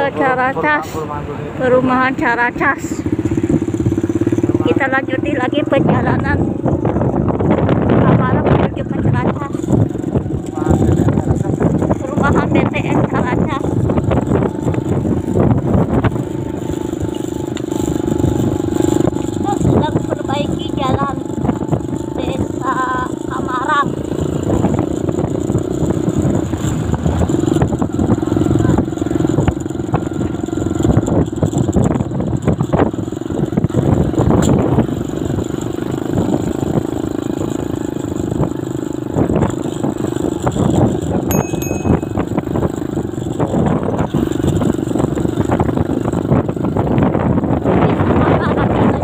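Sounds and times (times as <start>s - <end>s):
motorcycle engine hum: 0.0s - 49.0s
wind rumbling on microphone: 1.6s - 49.0s.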